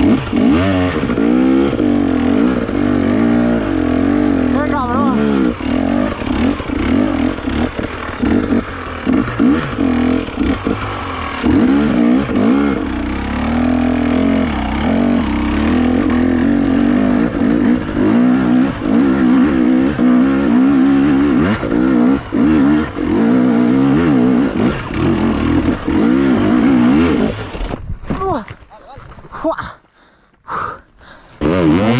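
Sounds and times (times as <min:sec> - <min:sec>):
motorcycle engine revving: 0:00.0 - 0:27.8, 0:31.4 - 0:31.9.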